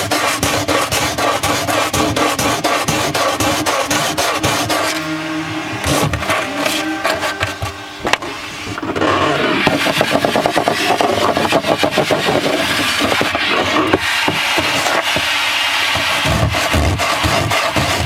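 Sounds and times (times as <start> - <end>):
sandpaper scraping wood: 0.0 - 18.0.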